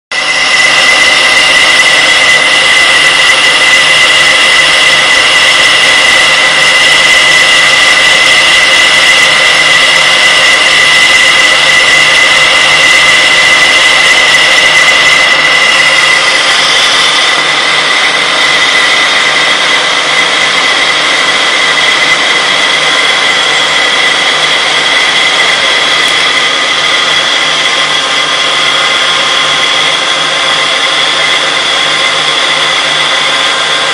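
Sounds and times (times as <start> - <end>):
metal lathe high whine: 0.1 - 33.9.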